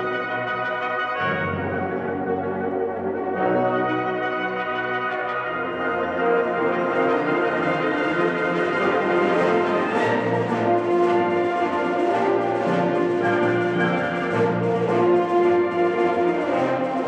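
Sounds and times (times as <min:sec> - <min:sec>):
flutes: 0:00.0 - 0:17.0
french horns: 0:00.0 - 0:17.0
saxophones: 0:00.0 - 0:17.0
trombones: 0:00.0 - 0:17.0
trumpets: 0:00.0 - 0:17.0.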